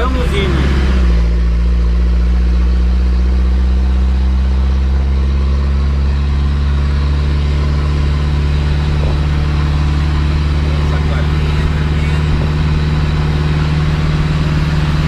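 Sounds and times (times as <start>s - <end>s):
road noise: 0.0s - 15.0s
truck engine drone: 0.0s - 15.0s.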